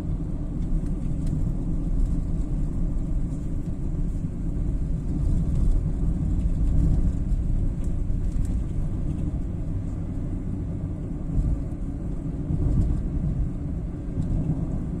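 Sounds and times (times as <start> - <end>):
car engine: 0.0 - 15.0
road and tyre noise in car: 0.0 - 15.0.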